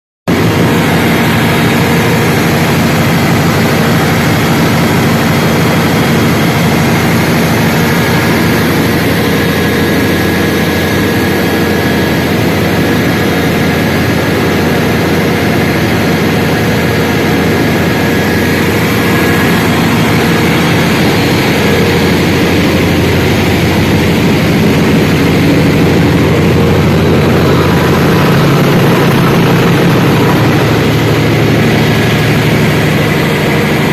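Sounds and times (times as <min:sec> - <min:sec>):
diesel generator engine drone: 0:00.3 - 0:33.9.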